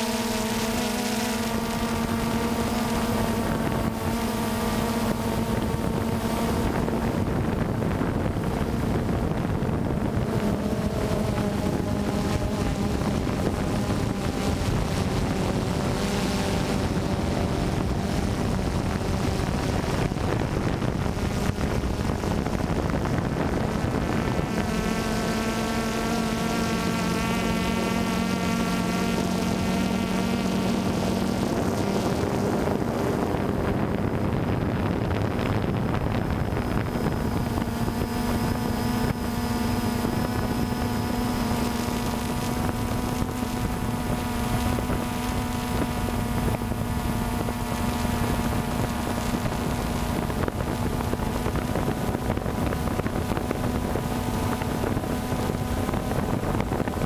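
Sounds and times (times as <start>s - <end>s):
drone motors whirring: 0.0s - 57.0s
wind noise on microphone: 0.0s - 57.0s.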